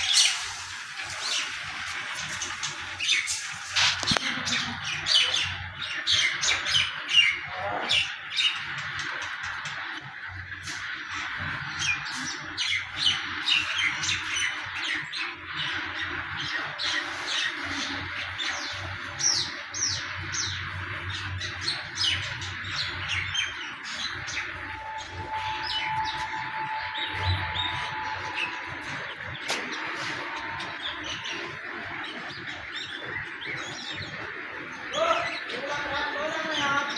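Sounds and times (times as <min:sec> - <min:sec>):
small birds chirping and squawking: 0:00.0 - 0:36.9.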